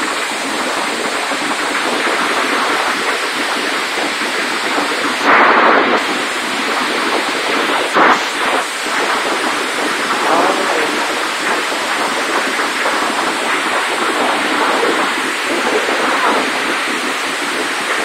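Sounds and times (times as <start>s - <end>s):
heavy rain and hail: 0.0s - 18.0s.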